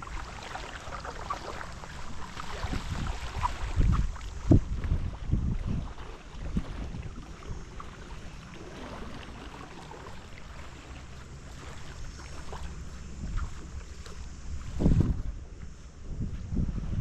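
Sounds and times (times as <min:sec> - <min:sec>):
surf washing on beach: 0:00.0 - 0:17.0
wind rumbling on microphone: 0:00.0 - 0:17.0.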